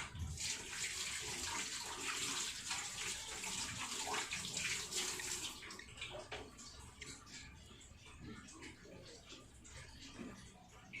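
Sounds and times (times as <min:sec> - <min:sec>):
tap water running and splashing: 0:00.0 - 0:11.0.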